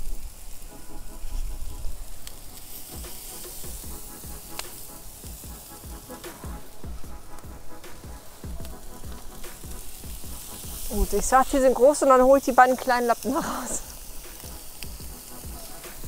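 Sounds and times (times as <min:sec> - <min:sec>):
chicken skin sizzling on a grill: 0:00.0 - 0:16.0.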